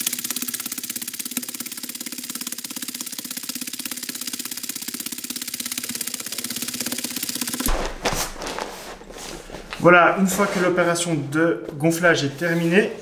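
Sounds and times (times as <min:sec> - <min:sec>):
electric air pump buzzing: 0:00.0 - 0:10.6.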